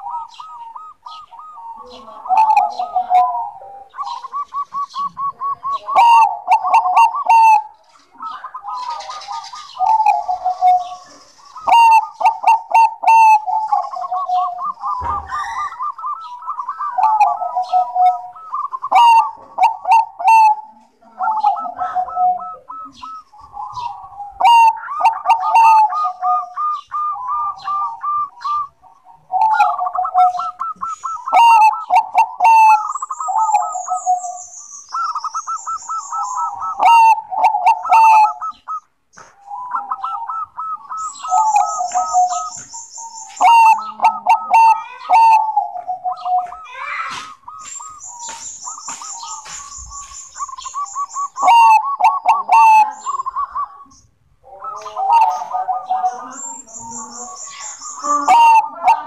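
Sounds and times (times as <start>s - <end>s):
dove singing and cooing: 0.0s - 59.0s.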